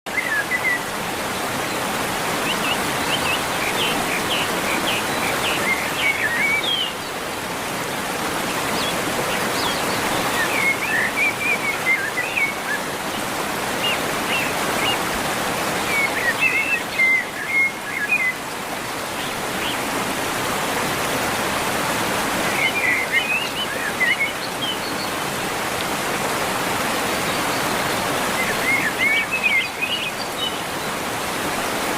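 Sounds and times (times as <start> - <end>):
small birds chirping: 0.1 - 20.3, 21.8 - 25.3, 26.9 - 31.1
running water rushing: 0.1 - 31.9.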